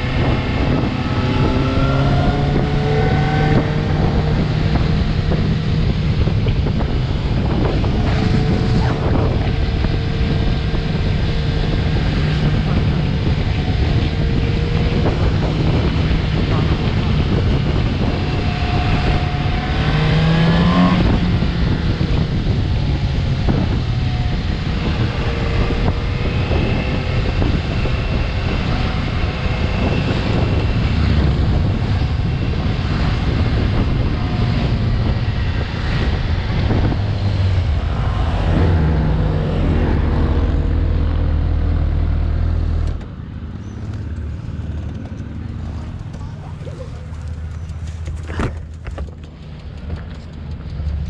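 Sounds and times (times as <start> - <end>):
motorcycle engine revving: 0.0 - 51.0
wind and road noise: 0.0 - 51.0.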